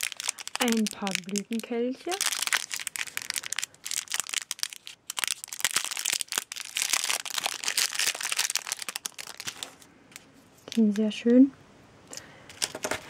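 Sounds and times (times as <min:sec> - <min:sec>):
plastic bag crinkling: 0:00.0 - 0:11.0, 0:12.5 - 0:13.0.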